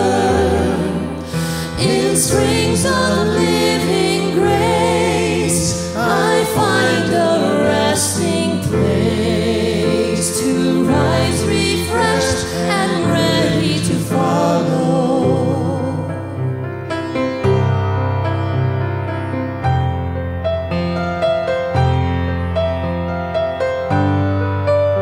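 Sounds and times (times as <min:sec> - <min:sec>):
instrumental backing: 0:00.0 - 0:25.0.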